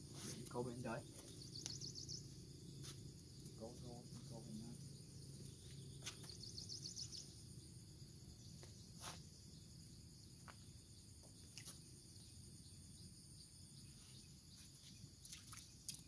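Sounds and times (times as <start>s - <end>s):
insect chirring: 0.0s - 16.0s.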